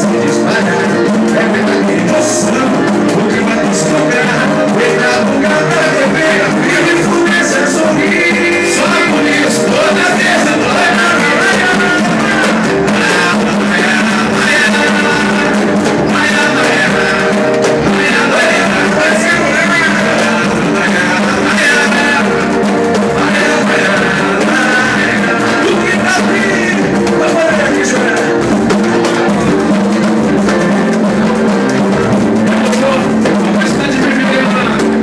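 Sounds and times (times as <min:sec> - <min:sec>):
hand drum playing: 0:00.0 - 0:35.0
music with singing: 0:00.0 - 0:35.0.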